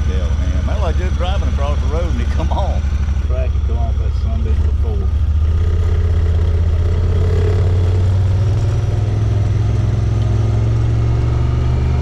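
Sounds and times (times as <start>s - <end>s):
vehicle engine low drone: 0.0s - 12.0s.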